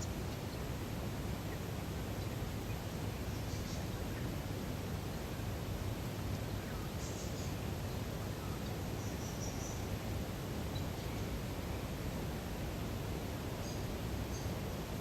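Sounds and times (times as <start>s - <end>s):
soft hiss of outdoor air: 0.0s - 15.0s.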